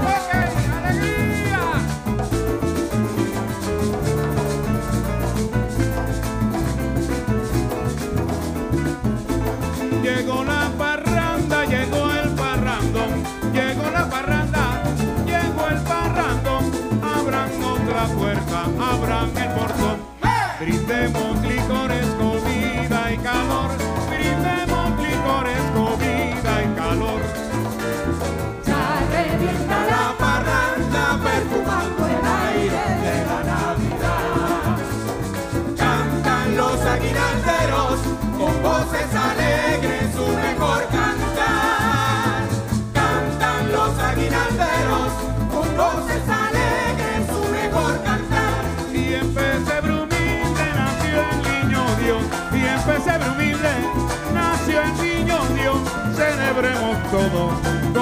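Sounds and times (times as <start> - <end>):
congas: 0.0 - 58.0
electric bass: 0.0 - 58.0
live band playing: 0.0 - 58.0.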